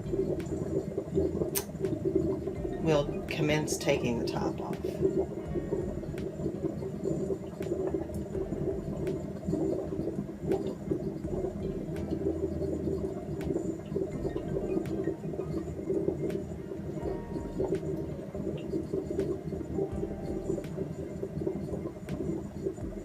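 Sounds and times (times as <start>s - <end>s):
coffee maker gurgling and bubbling: 0.0s - 23.0s.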